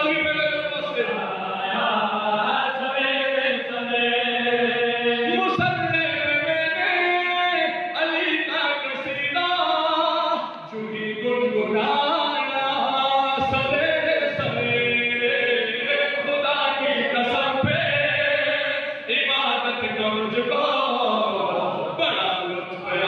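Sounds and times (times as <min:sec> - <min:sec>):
man chanting into microphone: 0:00.0 - 0:23.0.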